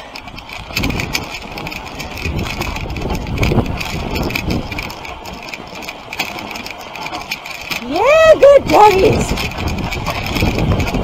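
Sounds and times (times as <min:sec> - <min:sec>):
sled clicks and rattles: 0:00.0 - 0:11.0
sled runners scraping on snow: 0:00.0 - 0:11.0.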